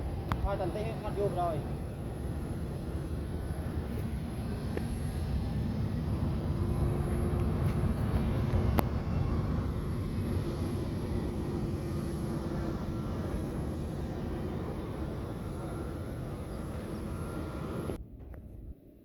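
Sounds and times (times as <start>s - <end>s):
airplane engine rumble: 0.0s - 19.0s.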